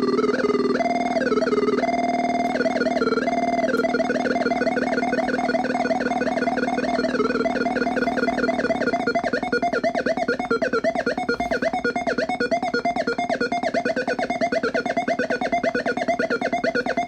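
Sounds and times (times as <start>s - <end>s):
electronic drone: 0.0s - 17.0s
warbling looping pitched pattern: 0.0s - 17.0s.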